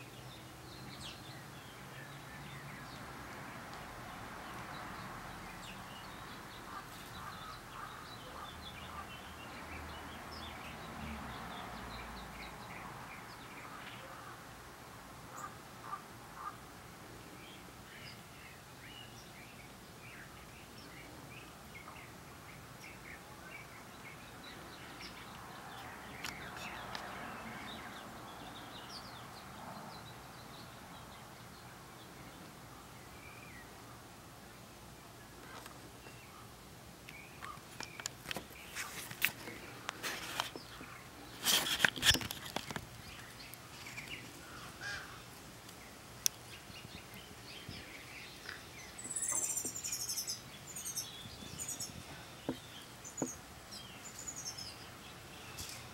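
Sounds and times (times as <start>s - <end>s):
songbirds chirping: 0.0s - 55.9s
steady background hiss: 0.0s - 55.9s.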